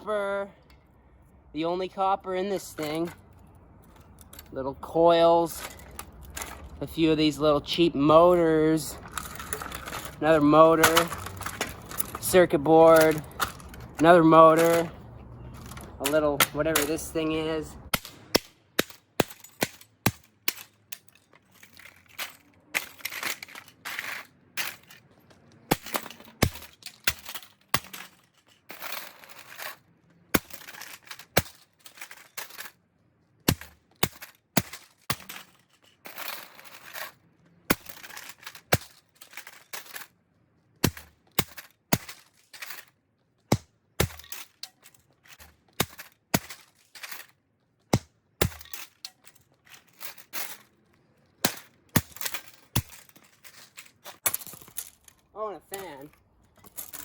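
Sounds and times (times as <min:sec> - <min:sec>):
scraping and rattling: 0:08.2 - 0:32.8, 0:33.4 - 0:40.2, 0:40.8 - 0:57.0.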